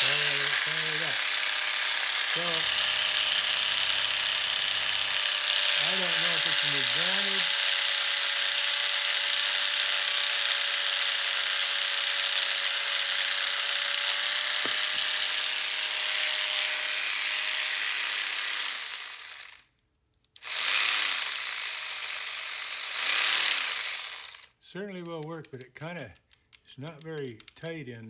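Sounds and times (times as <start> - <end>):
rotary tool buzzing: 0.0 - 19.7, 20.4 - 25.2.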